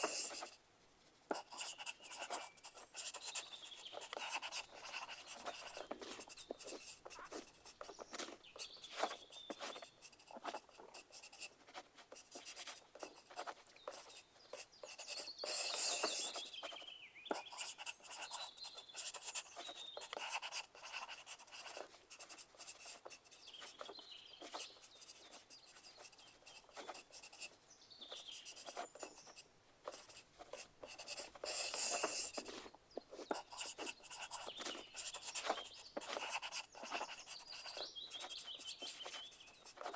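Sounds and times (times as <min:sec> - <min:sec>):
pencils scratching on paper: 0:00.0 - 0:00.6, 0:01.3 - 0:39.9.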